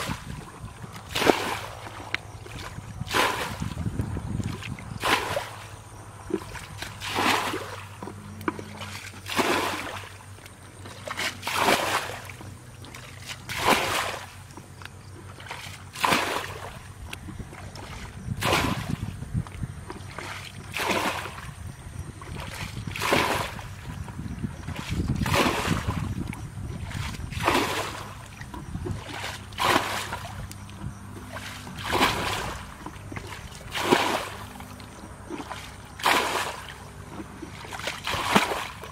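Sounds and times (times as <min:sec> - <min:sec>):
low steady hum: 0:00.0 - 0:38.9
water splashing: 0:00.0 - 0:38.9.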